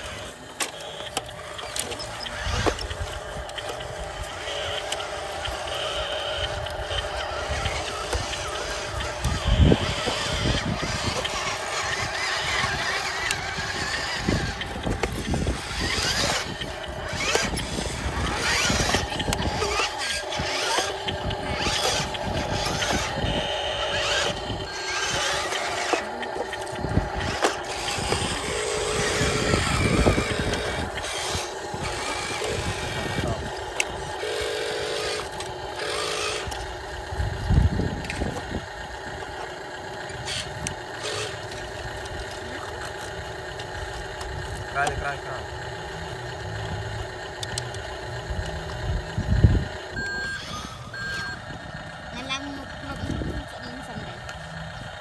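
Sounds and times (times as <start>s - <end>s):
toy truck motor drone: 0.0s - 55.0s.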